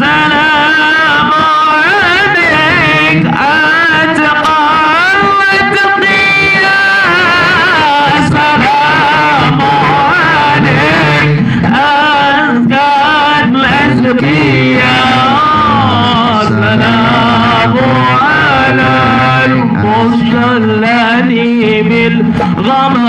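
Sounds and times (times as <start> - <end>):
drums: 0.0 - 23.0
man singing through microphone: 0.0 - 23.0.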